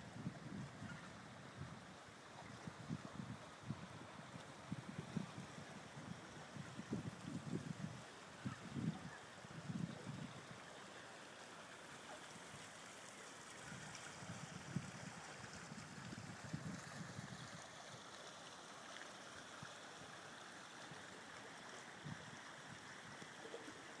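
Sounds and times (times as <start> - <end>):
river water rushing: 1.1 - 24.0.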